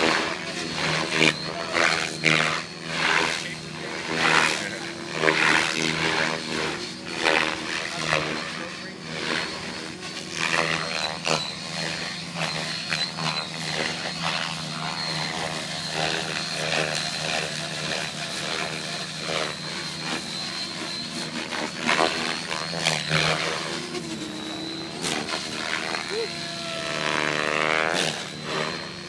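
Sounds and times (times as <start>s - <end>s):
model helicopter whine and buzz: 0.0s - 29.0s.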